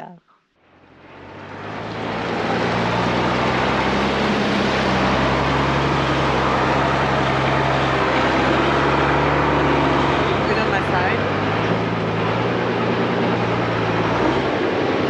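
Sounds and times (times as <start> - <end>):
broad rush of noise: 0.8 - 15.0
diesel truck engine running: 0.8 - 15.0.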